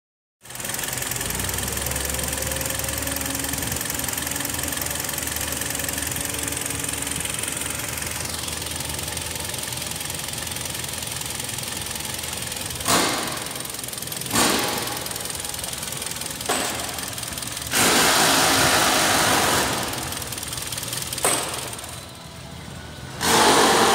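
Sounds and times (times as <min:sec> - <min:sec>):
car engine idling: 0:00.4 - 0:23.2.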